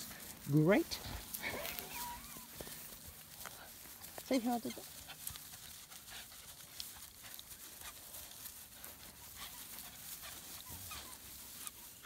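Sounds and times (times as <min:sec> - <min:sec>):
dogs scuffling on dry grass: 0:00.0 - 0:12.0.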